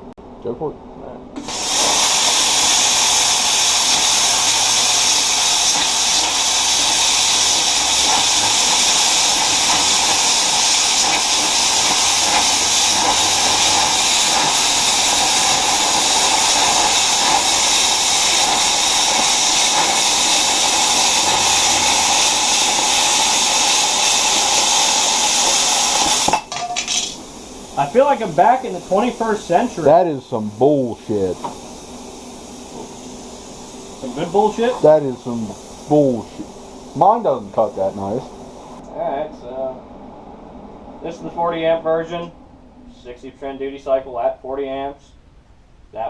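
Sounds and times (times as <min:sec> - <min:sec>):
plasma cutter hissing: 0:01.4 - 0:38.8.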